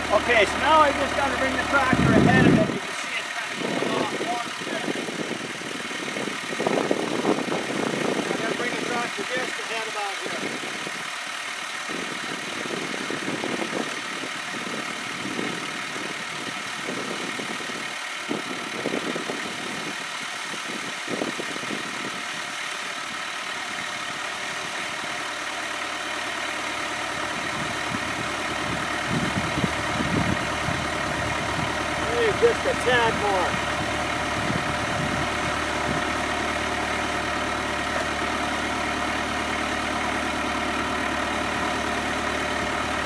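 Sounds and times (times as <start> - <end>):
diesel tractor engine idling: 0.0 - 43.0.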